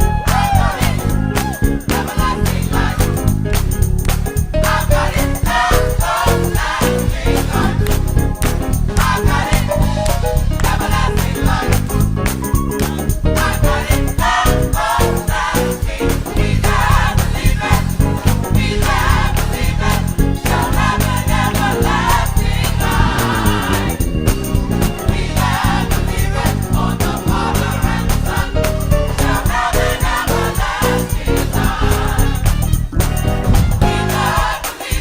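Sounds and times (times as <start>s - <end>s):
gospel choir singing: 0.0s - 3.7s, 4.4s - 35.0s
heavy bass line: 0.0s - 34.5s
drums playing steady beat: 0.0s - 35.0s.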